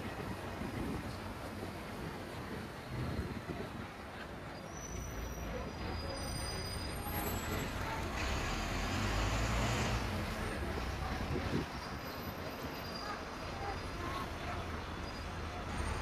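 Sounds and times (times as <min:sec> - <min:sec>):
heavy vehicle engine rumble: 0:00.0 - 0:16.0
street traffic: 0:00.0 - 0:16.0.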